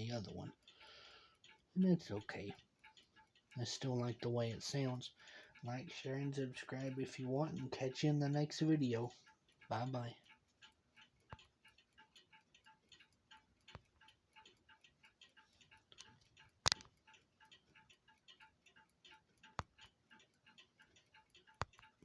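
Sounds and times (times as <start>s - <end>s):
clock ticking faintly: 0.0s - 22.0s
sharp clicks: 0.0s - 22.0s.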